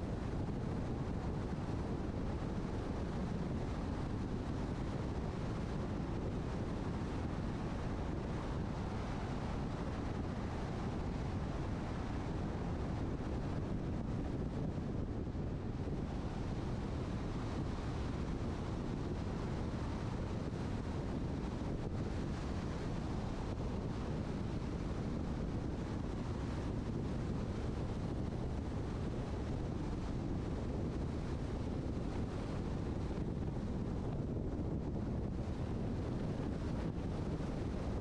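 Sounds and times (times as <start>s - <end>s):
car road and wind noise: 0.0s - 38.0s.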